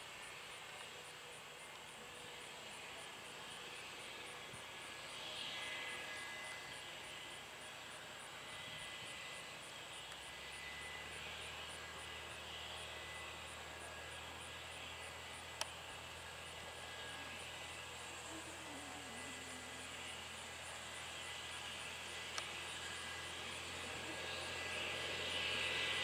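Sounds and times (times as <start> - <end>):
helicopter turbine and rotor idling: 0.0 - 26.0
lower hum: 0.0 - 26.0.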